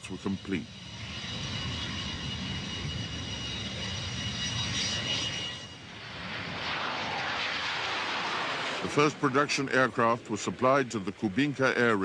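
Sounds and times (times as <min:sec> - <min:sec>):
jet engines low rumble: 0:00.0 - 0:12.0
jet engines whining: 0:00.0 - 0:12.0.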